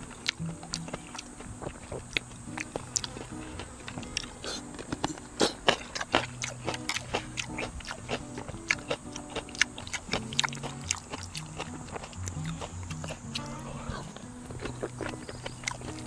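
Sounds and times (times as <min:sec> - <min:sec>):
light background music: 0:00.0 - 0:16.0
person chewing: 0:00.0 - 0:16.0.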